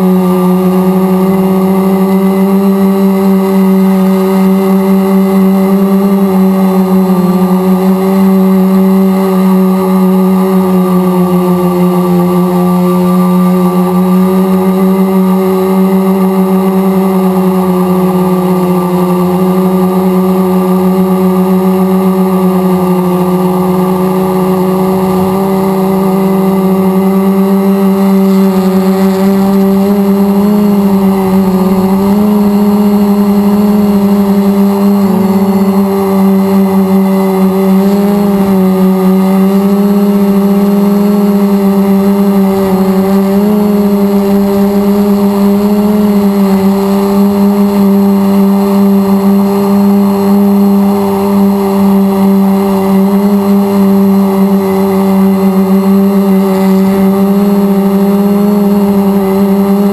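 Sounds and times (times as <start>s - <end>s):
drone motors and propellers humming: 0.0s - 59.9s.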